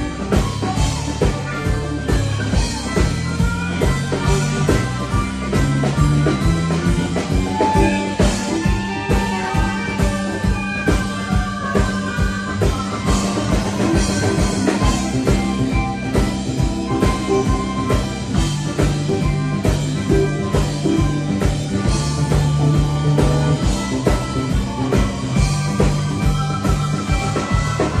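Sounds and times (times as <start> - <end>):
live rock band playing: 0.0 - 28.0
steady drum beat: 0.0 - 28.0.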